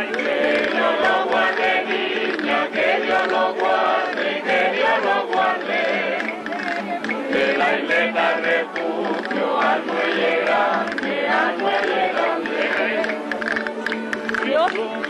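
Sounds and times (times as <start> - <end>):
folk group singing in chorus: 0.0 - 15.0
strummed guitars: 0.0 - 15.0.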